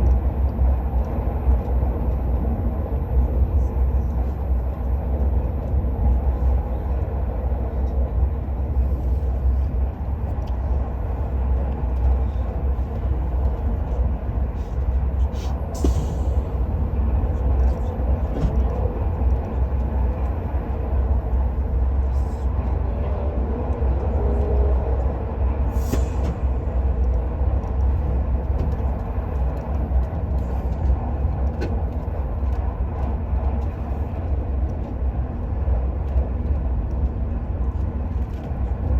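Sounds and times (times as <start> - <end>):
train rumbling at speed: 0.0 - 38.9.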